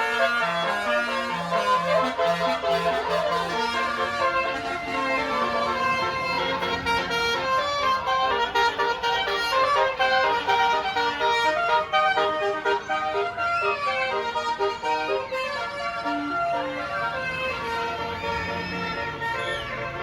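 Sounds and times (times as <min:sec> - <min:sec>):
musical air horn melody: 0:00.0 - 0:20.0.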